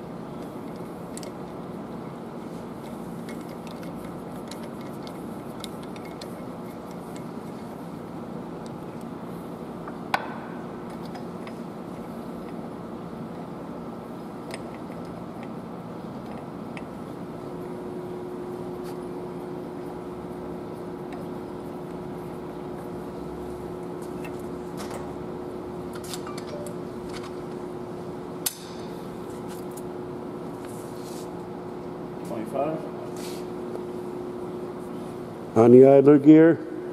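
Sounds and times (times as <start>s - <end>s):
steady background hum: 0.0s - 36.9s.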